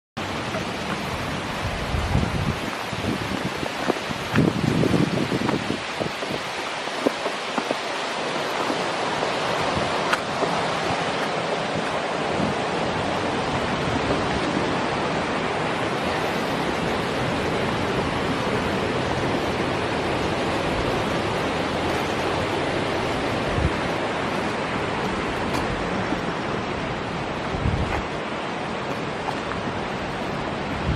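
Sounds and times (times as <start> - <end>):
waterfall roaring: 0.2 - 30.9.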